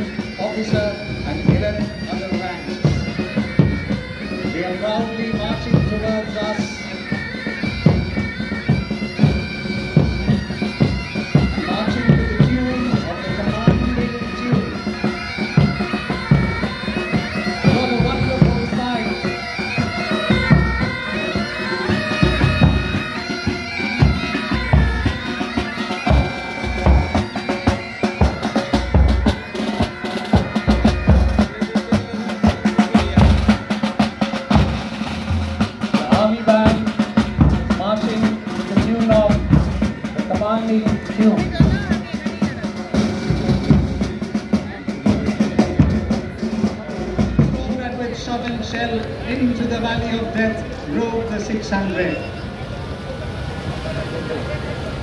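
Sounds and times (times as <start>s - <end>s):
bass and tenor drum beats: 0.0s - 50.8s
bagpipes playing a tune: 0.0s - 52.8s.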